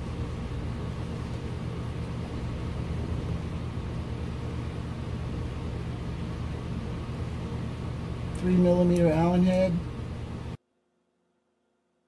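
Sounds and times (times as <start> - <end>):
low machine hum: 0.0 - 10.6.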